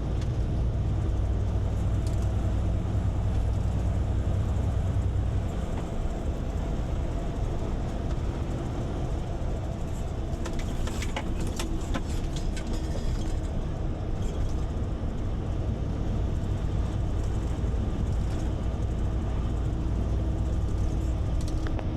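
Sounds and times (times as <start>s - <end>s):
truck engine and road rumble: 0.0s - 21.9s.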